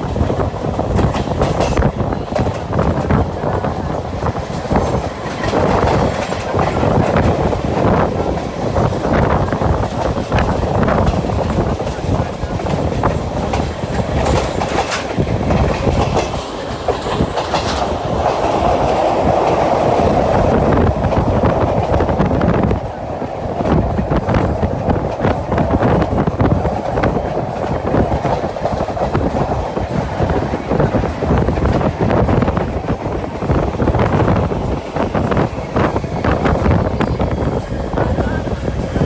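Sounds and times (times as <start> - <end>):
train rumbling: 0.0 - 39.0
wheels clattering over rail joints: 0.0 - 39.0.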